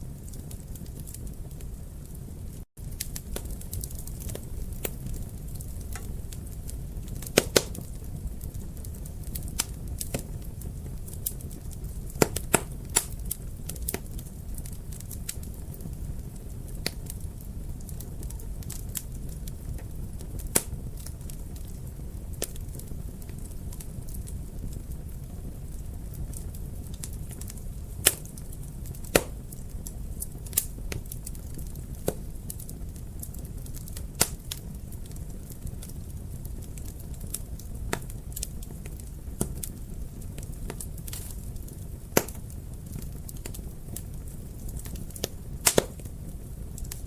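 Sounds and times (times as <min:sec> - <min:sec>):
fire crackling: 0:00.0 - 0:47.0
low rumble of flames: 0:00.0 - 0:47.0
sharp pops of fire: 0:02.8 - 0:47.0.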